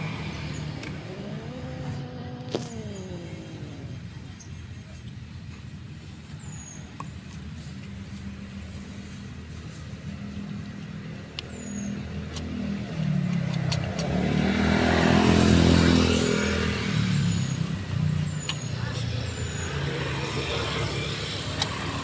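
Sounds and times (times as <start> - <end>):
vehicle engine approaching: 0.0 - 5.5, 8.0 - 22.0.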